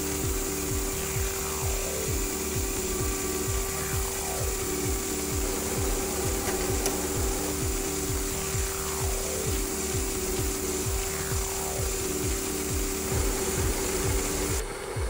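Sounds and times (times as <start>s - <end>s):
fibre blowing machine hum and hiss: 0.0s - 15.0s.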